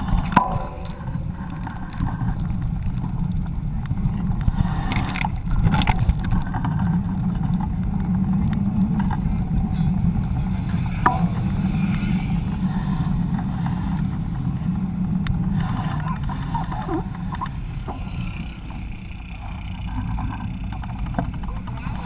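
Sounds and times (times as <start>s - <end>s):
bike tyres rolling on pavement: 0.0s - 22.0s
wind rumble on microphone: 0.0s - 22.0s.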